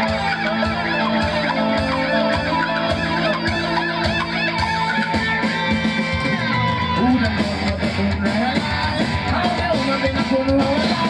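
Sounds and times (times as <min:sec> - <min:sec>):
guitar lines: 0:00.0 - 0:11.0
steady drum beat: 0:00.0 - 0:11.0.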